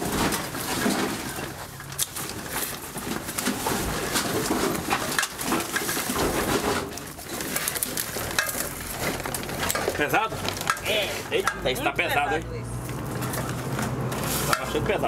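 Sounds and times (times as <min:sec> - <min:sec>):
scrap metal knocking and rattling: 0:00.0 - 0:11.9, 0:12.9 - 0:15.0.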